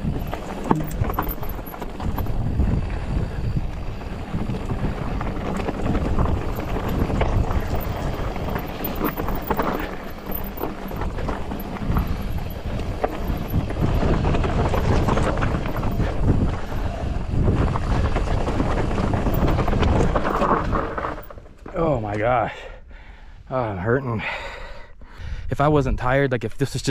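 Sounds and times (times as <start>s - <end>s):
bike rattling with sharp knocks: 0.0s - 21.8s
bike tyres clattering over ground: 0.0s - 21.8s
wind buffeting microphone: 0.0s - 22.4s.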